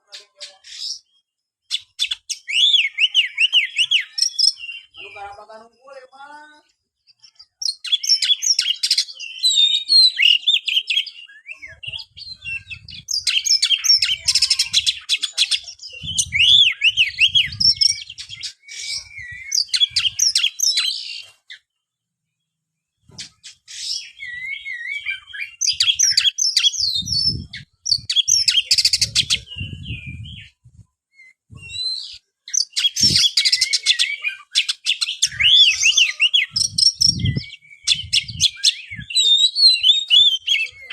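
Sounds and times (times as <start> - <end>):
bird singing whistles and trills: 0.3 - 5.6, 7.1 - 21.8, 23.0 - 40.9.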